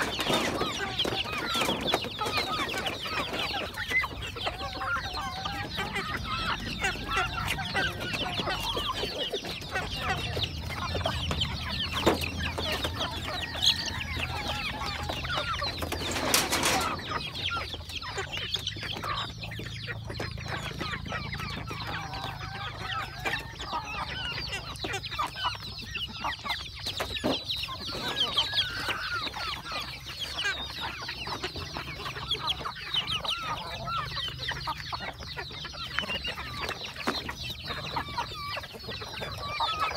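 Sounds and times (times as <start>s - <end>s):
hens and chicks clucking and peeping: 0.0s - 39.9s.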